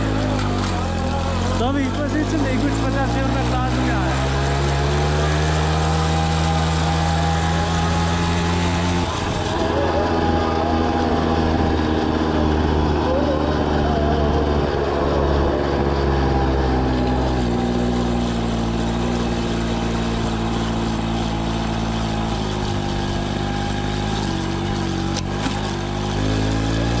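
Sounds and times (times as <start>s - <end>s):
moped engine running: 0.0s - 27.0s.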